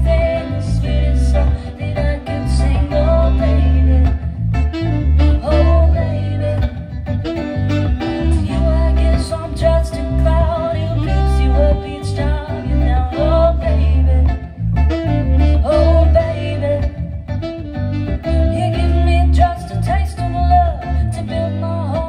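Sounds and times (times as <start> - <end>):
woman singing: 0.0 - 7.2, 8.1 - 17.2, 18.1 - 22.0
electric bass line: 0.0 - 22.0
electric guitar: 0.0 - 22.0.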